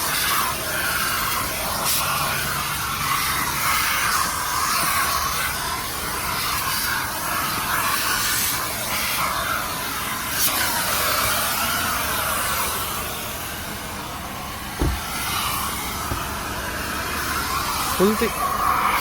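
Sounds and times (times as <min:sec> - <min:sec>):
vacuum hose sucking air: 0:00.0 - 0:19.0.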